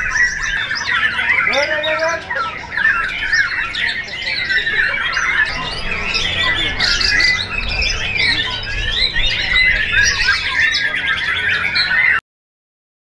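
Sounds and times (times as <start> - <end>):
bird song whistles and chatters: 0.0 - 12.2.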